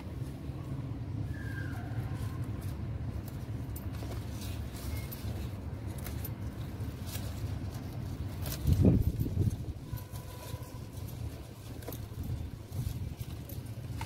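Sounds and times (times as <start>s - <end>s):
leaves rustling: 0.0s - 14.0s.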